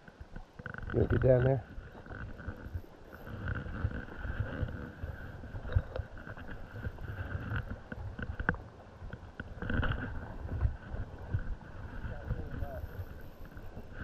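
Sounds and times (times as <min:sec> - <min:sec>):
stream water running: 0:00.0 - 0:14.0.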